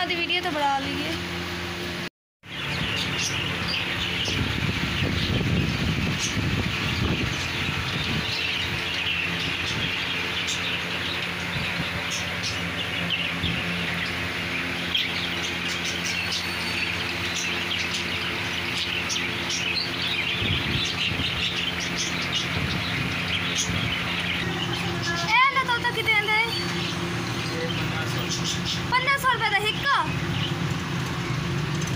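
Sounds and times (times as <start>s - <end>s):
chorus of small birds chirping: 2.4s - 31.9s.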